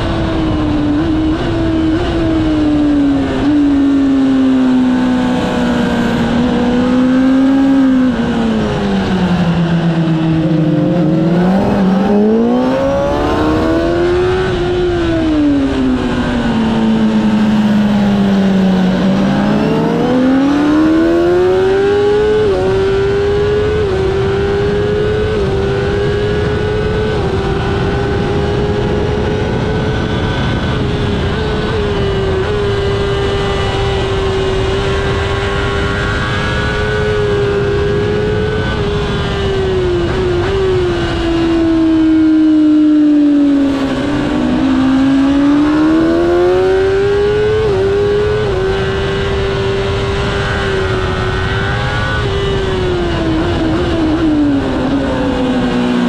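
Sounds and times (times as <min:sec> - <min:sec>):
racing motorcycle engine: 0:00.0 - 0:56.0
wind rush: 0:00.0 - 0:56.0.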